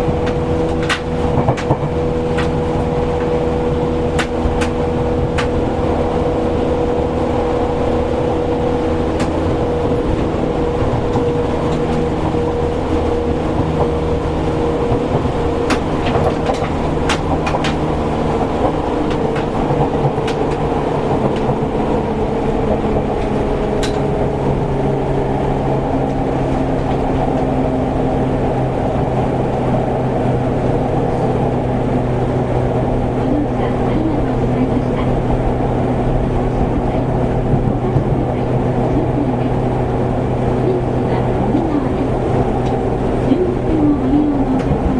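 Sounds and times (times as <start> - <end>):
electric train rumble: 0.0 - 44.9
rail-joint clicks: 0.0 - 44.9
traction motor hum: 0.0 - 44.9.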